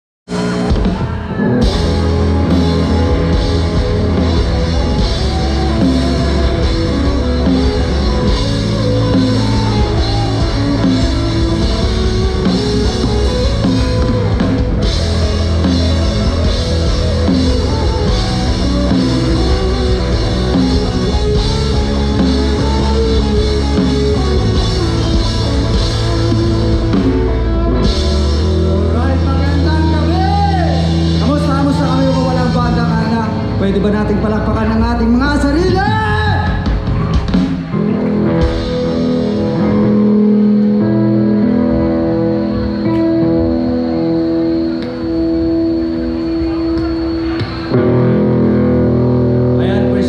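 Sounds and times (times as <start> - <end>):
drum kit: 0.3 - 33.9, 34.7 - 50.0
bass guitar: 0.3 - 50.0
electric guitar: 0.3 - 50.0.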